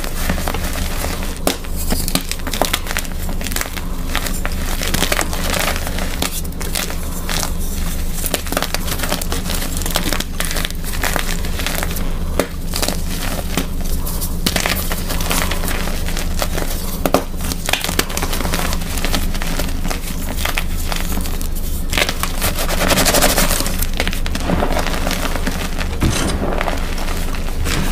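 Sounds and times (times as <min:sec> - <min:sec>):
chalk blocks crunching by hand: 0:00.0 - 0:27.9.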